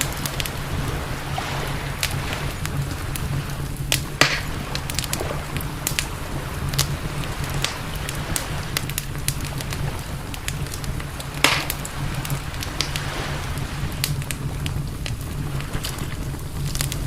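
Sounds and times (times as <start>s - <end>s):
campfire crackling and popping: 0.0s - 17.0s
steady low rumble: 0.0s - 17.0s.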